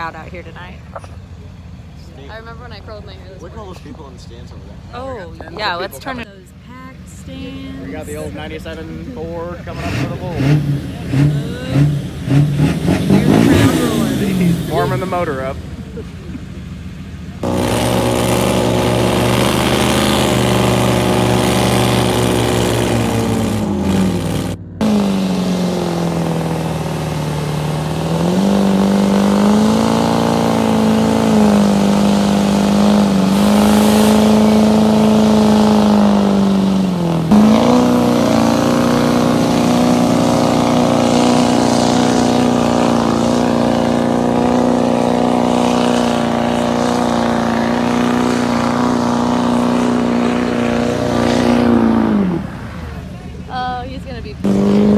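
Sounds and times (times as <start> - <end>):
truck engine at high revs: 0.0 - 54.9.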